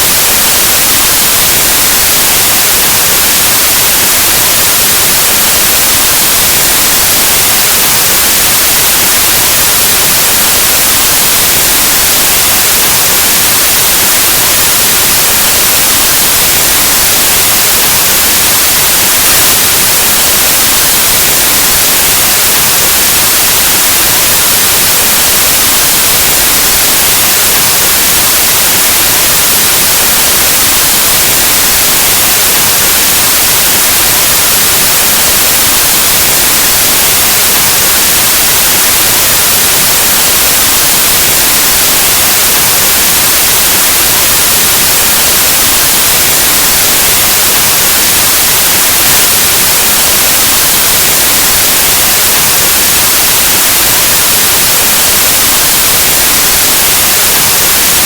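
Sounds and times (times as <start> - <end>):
loud white noise hiss: 0.0 - 58.0.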